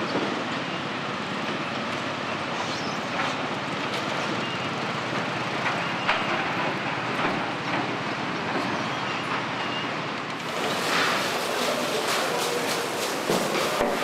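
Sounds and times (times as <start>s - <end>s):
rumble of vehicles and machinery: 0.0s - 14.0s.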